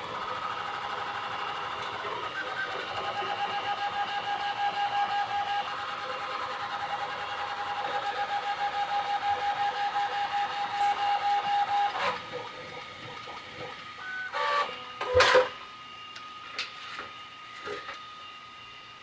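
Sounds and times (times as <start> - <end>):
short high motor tones: 0.0 - 16.2
stepper motors whining: 0.0 - 19.0.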